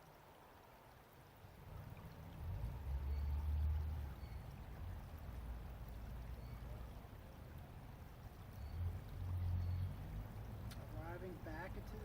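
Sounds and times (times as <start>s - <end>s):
faint outdoor background hiss: 0.0s - 12.0s.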